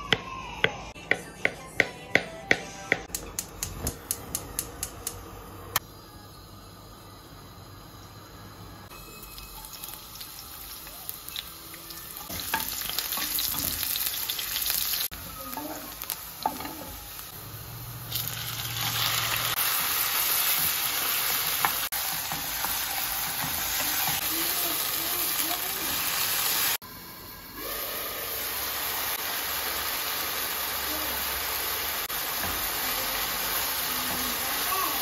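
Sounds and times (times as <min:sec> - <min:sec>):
food sizzling in a pan: 0:05.4 - 0:35.0.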